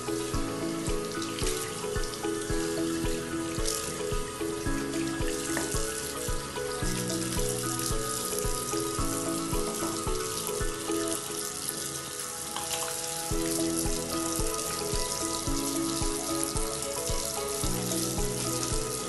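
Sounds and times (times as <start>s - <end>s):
background music with beat: 0.0s - 19.0s
tap water running into basin: 0.0s - 19.0s.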